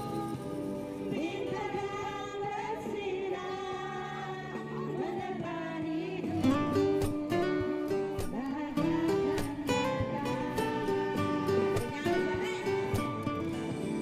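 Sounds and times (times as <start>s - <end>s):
instrumental backing music: 0.0s - 14.0s
person singing: 0.0s - 14.0s.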